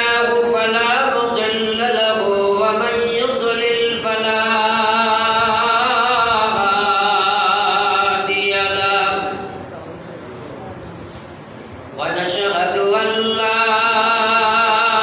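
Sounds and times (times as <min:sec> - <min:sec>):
man chanting into a microphone: 0:00.0 - 0:09.7, 0:11.9 - 0:15.0.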